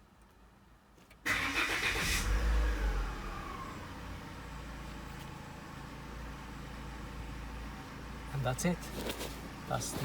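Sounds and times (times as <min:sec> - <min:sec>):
car engine starting and idling: 0:01.2 - 0:10.0.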